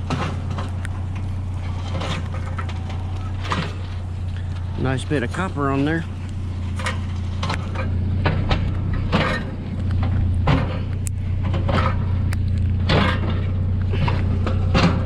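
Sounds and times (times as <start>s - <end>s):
scrap metal clanking: 0.0s - 15.0s
truck engine running: 0.0s - 15.0s.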